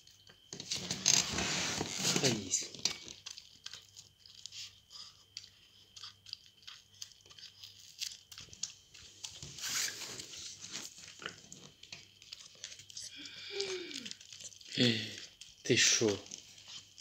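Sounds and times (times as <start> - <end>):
puppy crunching and chewing cone: 0.0 - 17.0.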